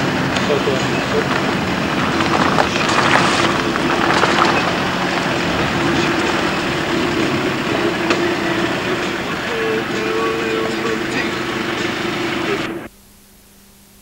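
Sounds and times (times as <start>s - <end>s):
car engine running from inside: 0.0s - 12.9s.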